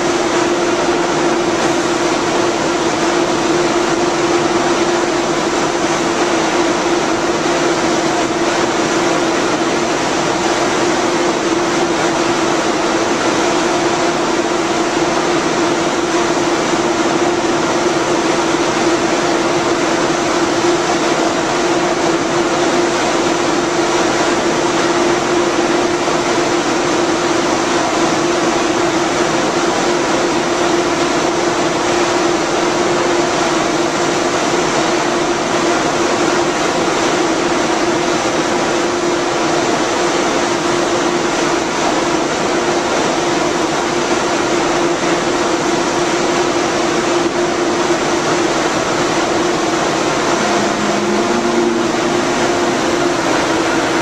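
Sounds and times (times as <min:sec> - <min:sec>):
train cooling fans whirring hum: 0:00.0 - 0:54.0.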